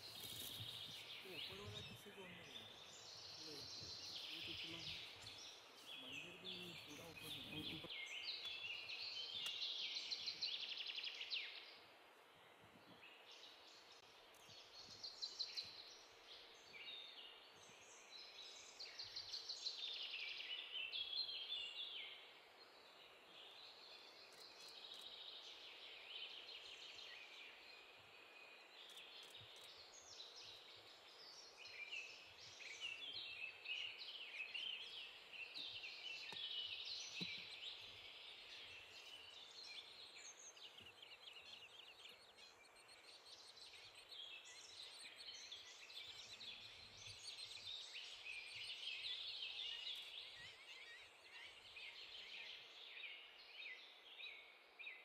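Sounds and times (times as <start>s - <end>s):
birds chattering and trilling: 0.0s - 55.0s.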